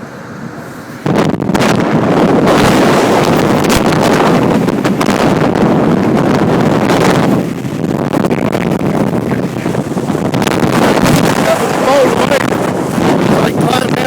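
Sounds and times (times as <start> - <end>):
wind blasting microphone: 0.0 - 14.0.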